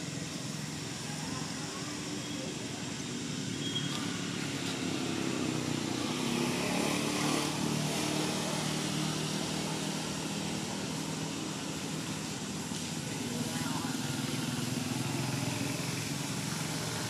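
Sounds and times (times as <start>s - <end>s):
vehicle engine passing by: 3.3s - 17.0s.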